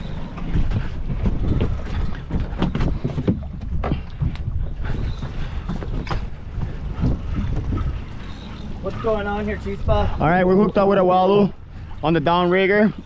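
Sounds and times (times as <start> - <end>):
low boat engine rumble: 0.0 - 13.0
wind buffeting microphone: 0.0 - 13.0.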